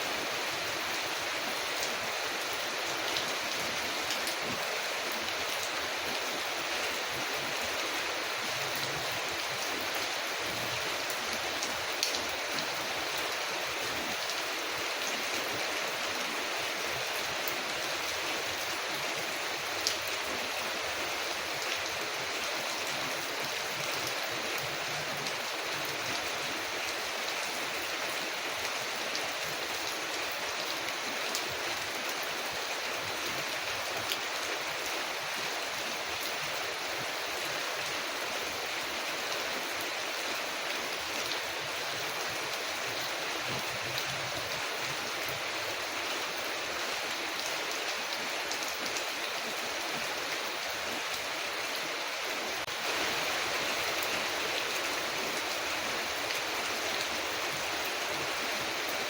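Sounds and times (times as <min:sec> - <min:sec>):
rain on a window: 0:00.1 - 0:59.0.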